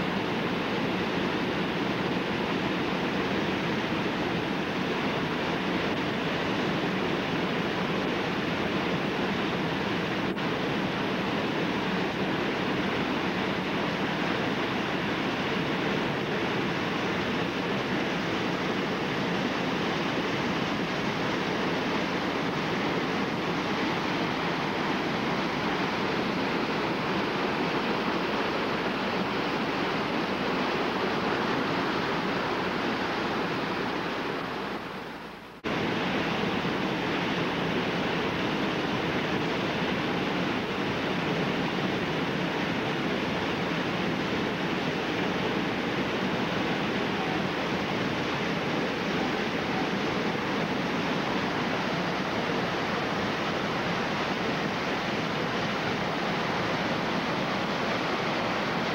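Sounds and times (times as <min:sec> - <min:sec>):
waterfall: 0:00.0 - 0:58.9
whitewater rapids rushing: 0:00.0 - 0:58.9.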